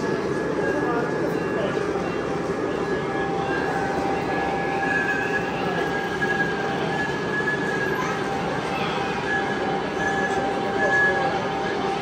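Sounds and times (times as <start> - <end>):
high steady whine: 0.0 - 12.0
model train rolling rumble: 0.0 - 12.0.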